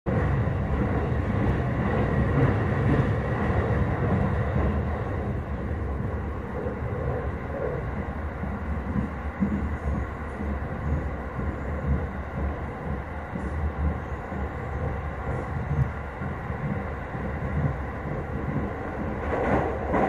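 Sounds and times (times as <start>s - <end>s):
train wheels rumbling on rails: 0.1s - 20.0s.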